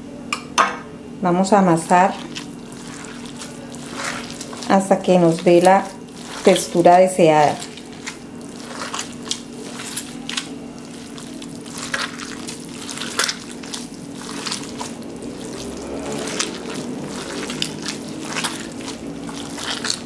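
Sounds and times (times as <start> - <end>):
hands kneading wet mixture: 1.3 - 20.0.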